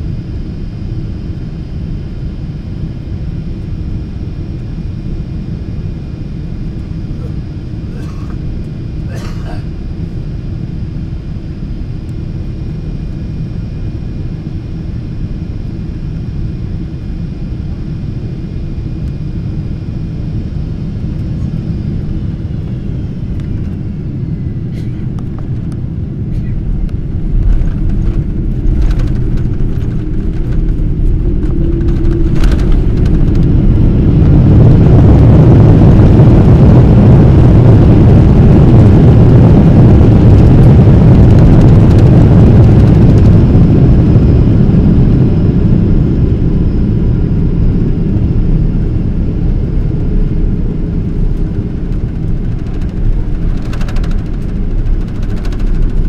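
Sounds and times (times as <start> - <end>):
jet engine roar in cabin: 0.0 - 56.0.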